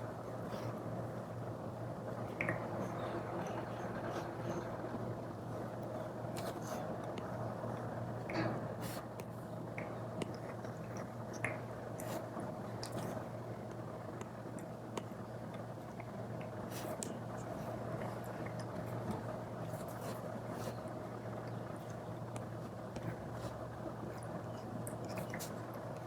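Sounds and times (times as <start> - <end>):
low hiss and hum: 0.0 - 26.0.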